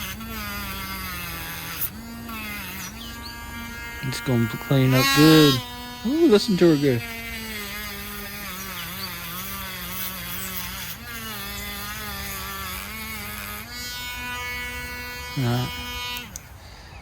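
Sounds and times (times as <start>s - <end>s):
small power tool motor whining: 0.0s - 17.0s.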